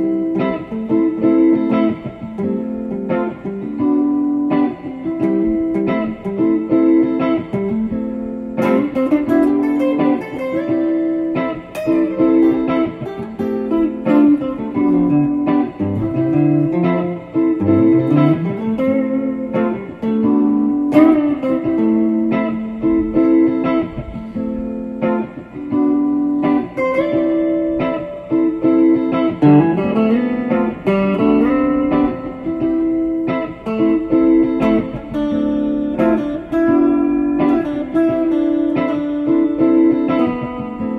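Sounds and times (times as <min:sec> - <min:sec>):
plucked guitar music: 0:00.0 - 0:40.9.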